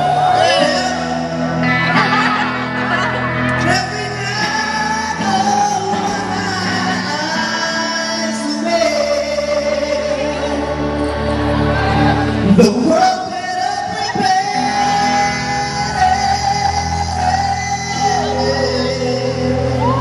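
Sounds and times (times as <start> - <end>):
backing track with bass: 0.0 - 20.0
person singing into microphone: 0.0 - 20.0.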